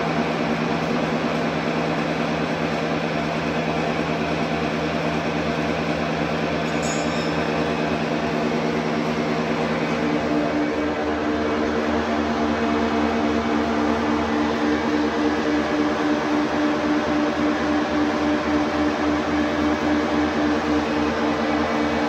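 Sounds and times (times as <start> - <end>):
metal lathe humming: 0.0 - 22.0.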